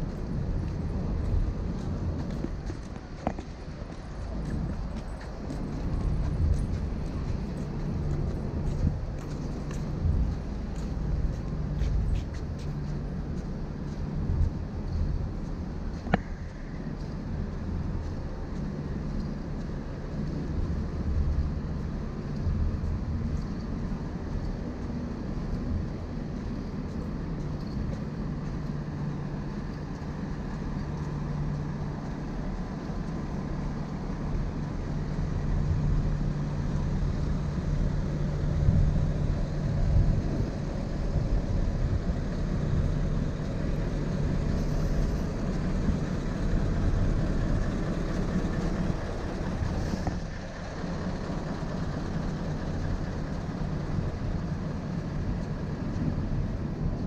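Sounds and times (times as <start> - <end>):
ship machinery drone: 0.0 - 57.0.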